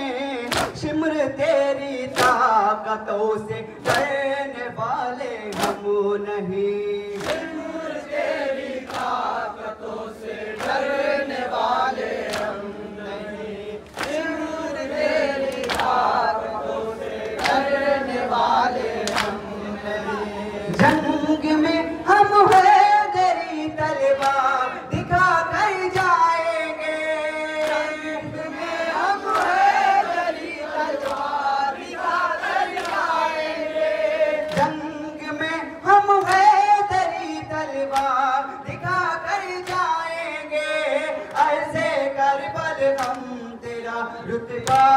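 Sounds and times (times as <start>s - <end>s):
men chanting a lament: 0.0s - 44.9s.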